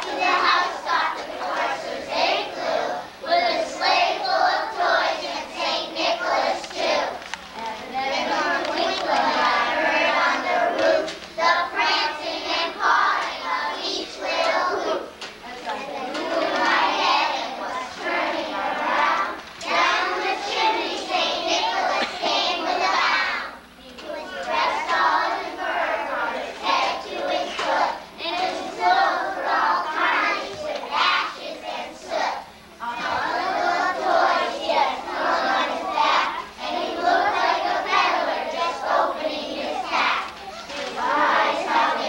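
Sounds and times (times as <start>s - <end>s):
children singing in a choir: 0.0s - 15.2s, 15.8s - 42.0s.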